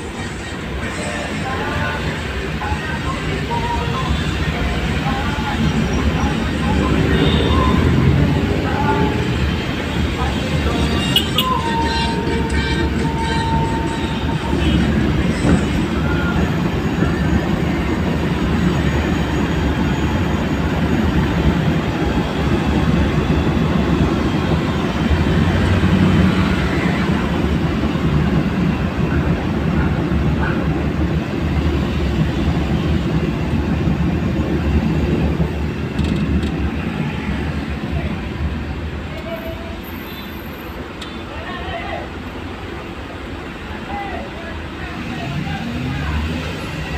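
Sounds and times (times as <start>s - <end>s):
vehicle road noise rumbling: 3.9s - 41.4s, 44.3s - 46.9s.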